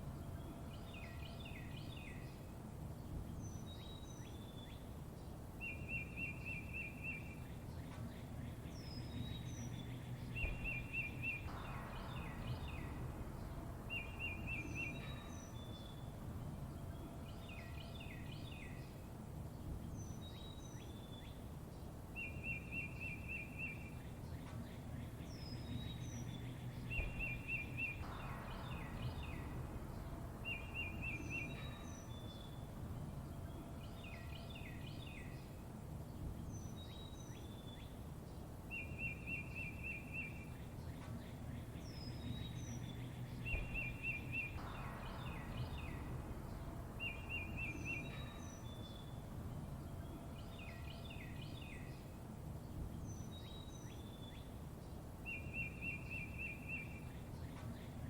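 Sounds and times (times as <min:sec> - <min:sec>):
low background noise: 0:00.0 - 0:58.0
songbirds chirping and trilling: 0:00.0 - 0:58.0.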